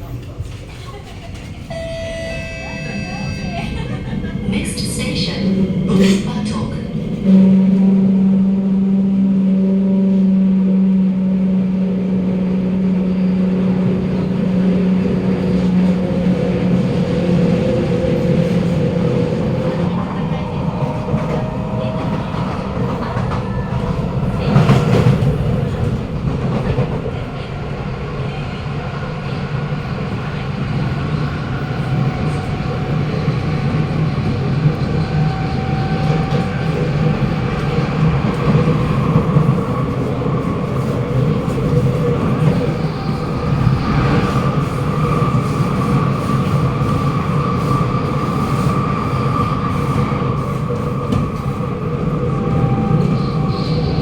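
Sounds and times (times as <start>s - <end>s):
metro car whining: 0.0s - 54.0s
wheels rumbling on rail: 0.0s - 54.0s.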